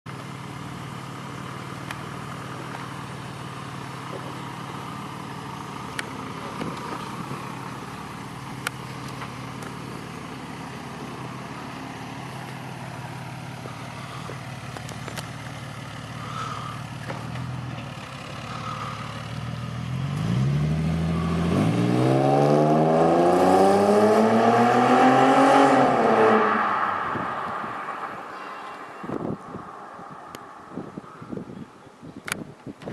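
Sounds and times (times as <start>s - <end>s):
car engine idling and revving: 0.1s - 32.9s.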